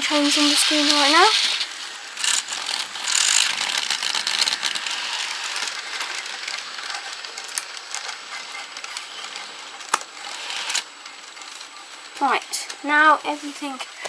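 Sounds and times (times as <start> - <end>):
model train rattling on track: 0.0 - 13.9.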